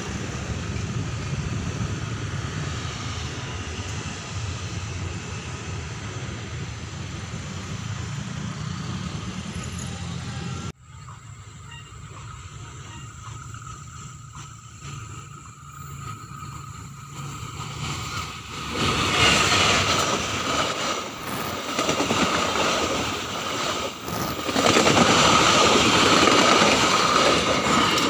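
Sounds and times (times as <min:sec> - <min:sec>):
train wheels rushing on rails: 0:00.0 - 0:28.0.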